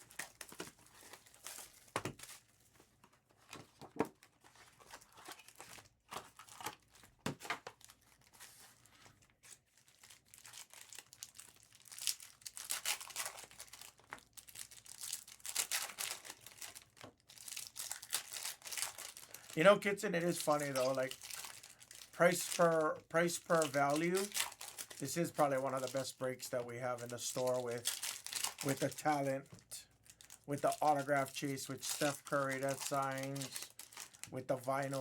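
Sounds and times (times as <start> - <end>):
wrappers tearing and crinkling: 0.0 - 2.4, 4.5 - 35.0.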